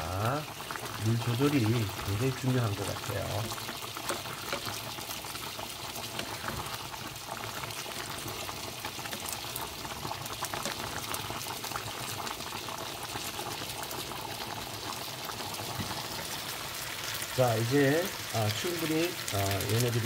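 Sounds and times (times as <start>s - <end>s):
corn boiling in a pot: 0.0s - 20.0s.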